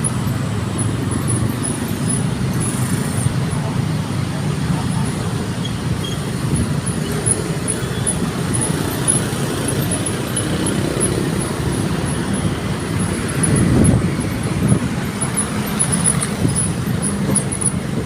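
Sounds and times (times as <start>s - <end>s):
car engines: 0.0s - 18.0s
tyres on road: 0.0s - 18.0s.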